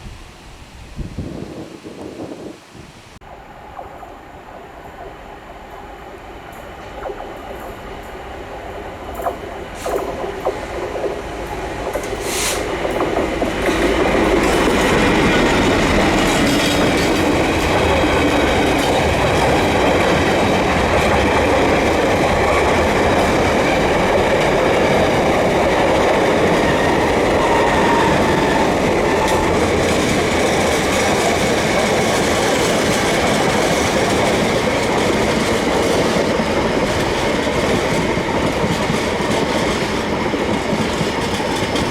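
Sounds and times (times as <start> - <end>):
train wheels rumbling on rails: 3.3 - 41.9
sharp clicks of train: 6.5 - 41.9.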